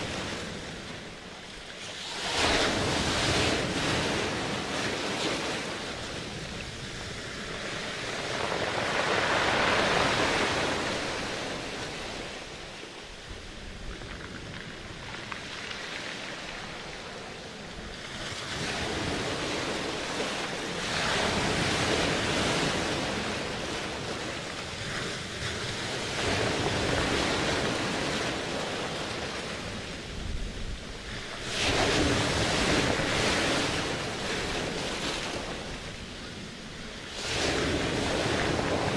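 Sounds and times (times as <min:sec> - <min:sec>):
ocean waves breaking: 0:00.0 - 0:38.9
wind: 0:00.0 - 0:38.9.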